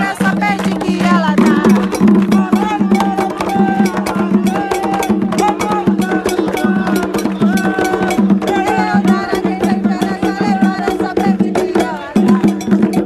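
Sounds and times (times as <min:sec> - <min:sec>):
group of voices chanting: 0:00.0 - 0:13.0
hand drums beaten fast: 0:00.0 - 0:13.0.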